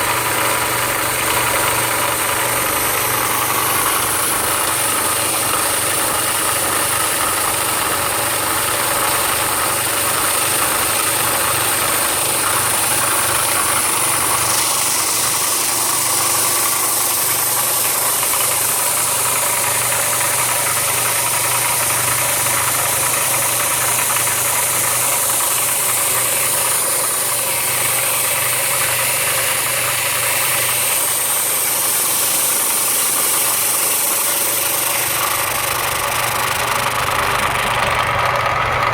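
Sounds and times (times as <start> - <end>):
electric sander running: 0.0 - 38.9.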